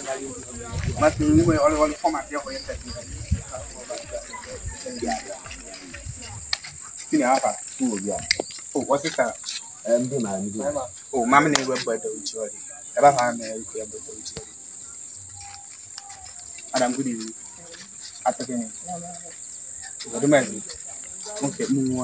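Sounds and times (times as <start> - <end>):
people talking: 0.0 - 14.5, 15.3 - 22.0
crickets trilling: 0.0 - 22.0.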